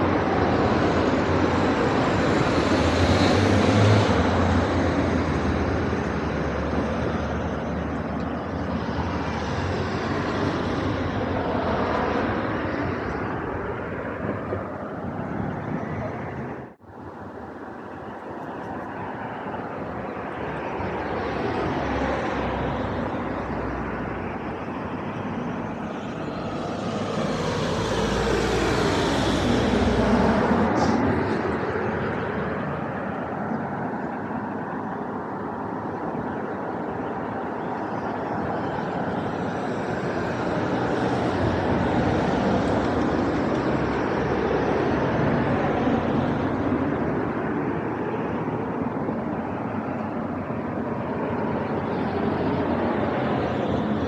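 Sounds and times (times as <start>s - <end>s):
traffic rushing past: 0.0s - 54.0s.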